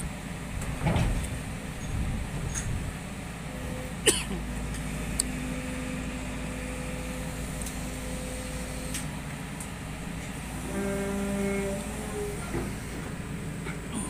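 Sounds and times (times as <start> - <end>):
excavator engine and hydraulics: 0.0 - 14.0.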